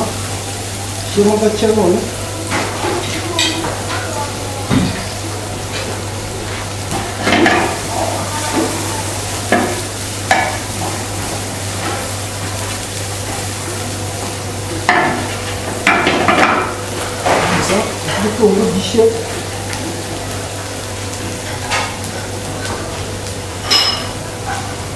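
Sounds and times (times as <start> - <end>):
vegetables sizzling in oil: 0.0 - 24.9
frying pan rattling and scraping: 4.7 - 24.9.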